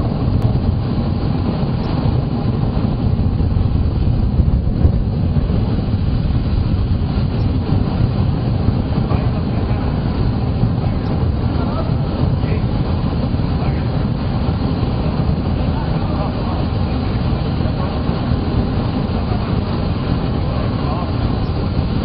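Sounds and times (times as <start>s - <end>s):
plasma torch rumbling hum: 0.0s - 22.0s
rushing noise: 0.0s - 22.0s.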